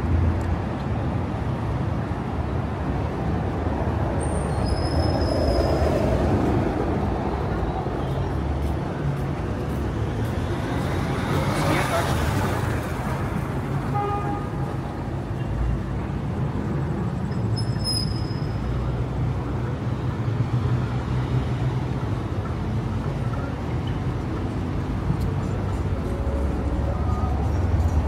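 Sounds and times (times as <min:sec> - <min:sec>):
road traffic rumbling: 0:00.0 - 0:28.0.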